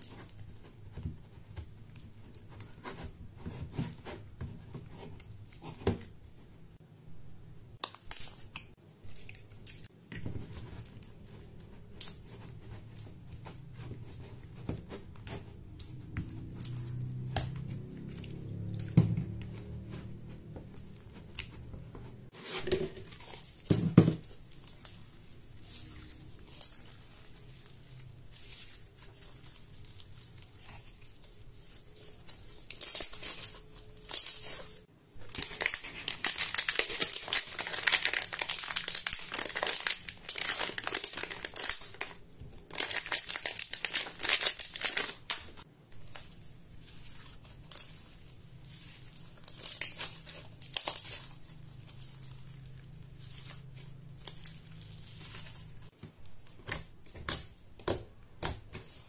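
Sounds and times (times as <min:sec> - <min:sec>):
slime crackling: 0:07.8 - 0:59.0.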